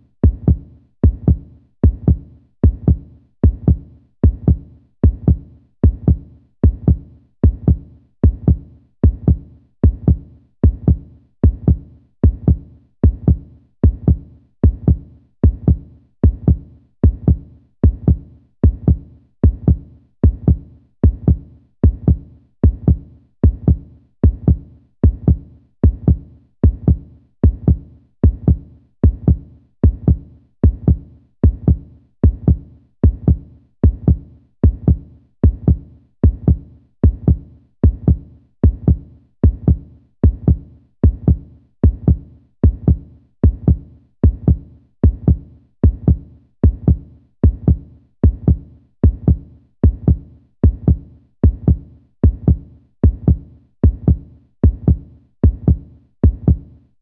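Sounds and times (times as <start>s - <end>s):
heartbeat lub-dub: 0.2s - 56.7s.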